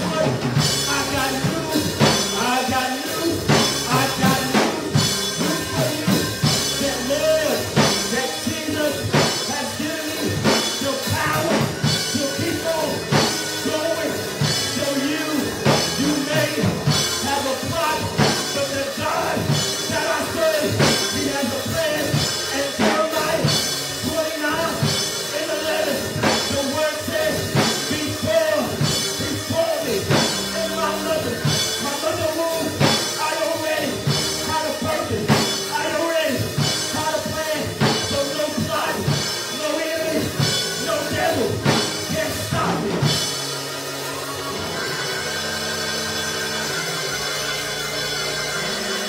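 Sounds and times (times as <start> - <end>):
man singing into microphone: 0.0 - 43.2
drum kit playing steady beat: 0.0 - 49.0
held chords: 0.0 - 49.0.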